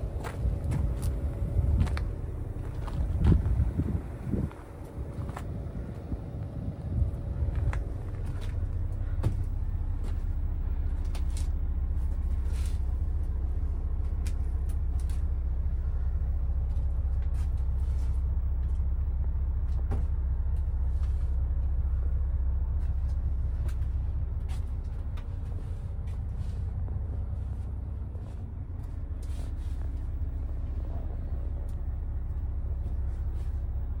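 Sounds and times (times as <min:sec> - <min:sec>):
bus diesel engine idling: 0:00.0 - 0:34.0.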